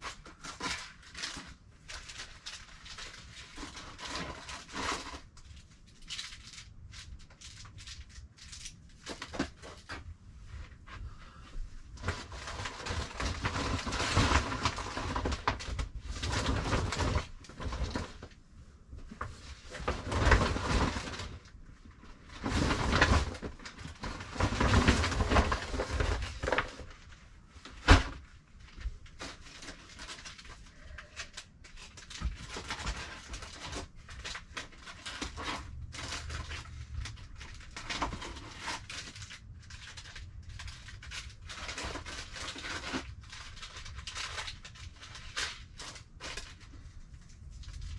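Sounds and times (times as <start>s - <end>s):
plastic bags rustling: 0.0s - 11.1s, 11.8s - 18.4s, 19.0s - 47.9s.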